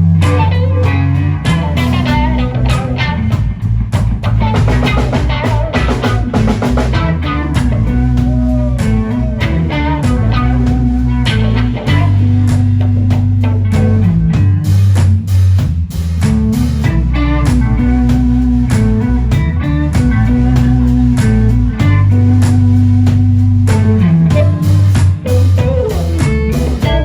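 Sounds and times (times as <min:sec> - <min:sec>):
blues-rock band playing: 0:00.0 - 0:27.0.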